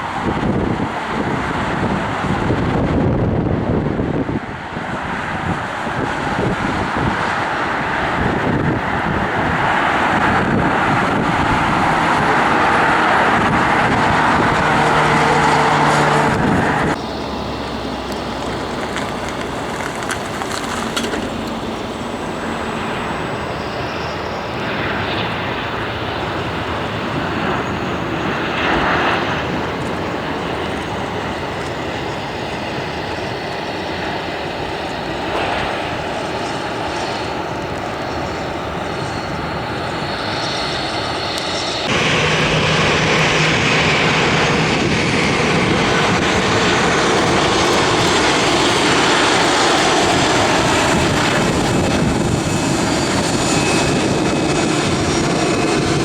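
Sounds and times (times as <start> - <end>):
airliner engines: 0.0 - 56.0.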